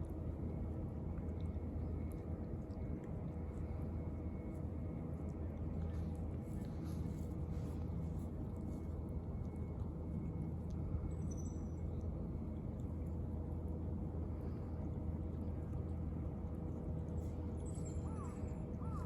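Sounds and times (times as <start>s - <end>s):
faint steady hum: 0.0s - 19.0s
low outdoor background rumble: 0.0s - 19.0s.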